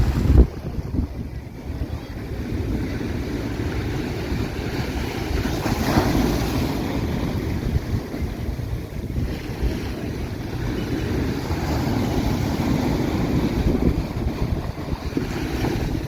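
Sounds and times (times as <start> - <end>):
surf washing on beach: 0.0 - 16.0
wave breaking: 0.0 - 16.0
wind buffeting microphone: 0.0 - 16.0.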